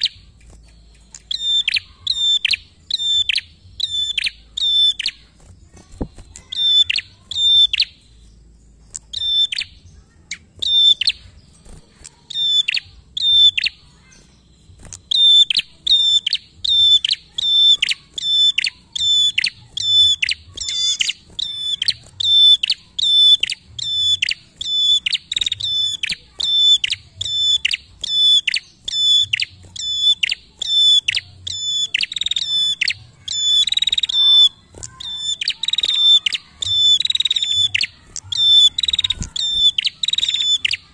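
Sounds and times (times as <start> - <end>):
bird calling sharp high notes: 0.0 - 8.3, 8.9 - 40.9.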